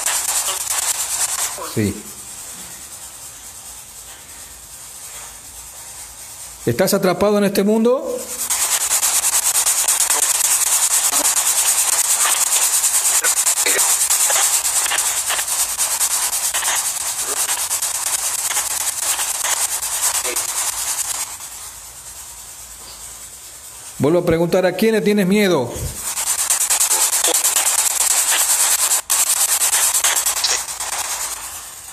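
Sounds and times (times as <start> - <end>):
radio static sweeping stations: 0.0 - 3.3, 6.7 - 22.6, 23.3 - 31.9.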